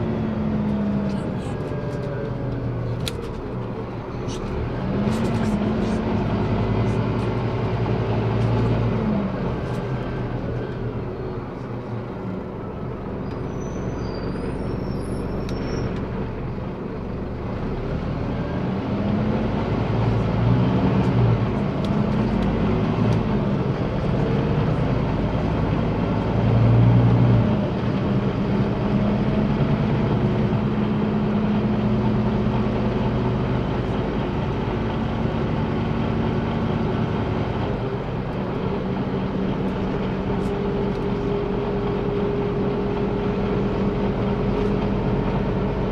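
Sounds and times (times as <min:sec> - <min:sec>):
bus diesel engine: 0:00.0 - 0:45.9
road rumble: 0:00.0 - 0:45.9.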